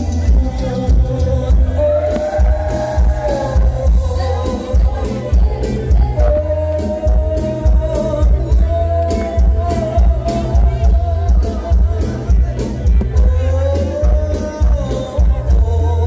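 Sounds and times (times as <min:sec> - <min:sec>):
person singing: 0:00.0 - 0:16.0
pounding bass beat: 0:00.0 - 0:16.0.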